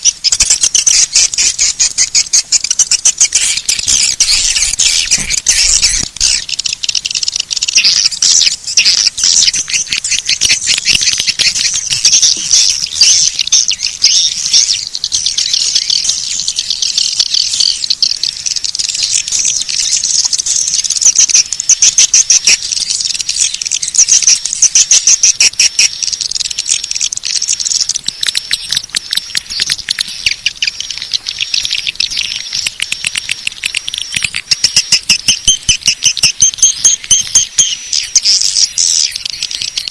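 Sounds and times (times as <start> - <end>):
swiftlets twittering: 0.0 - 39.9.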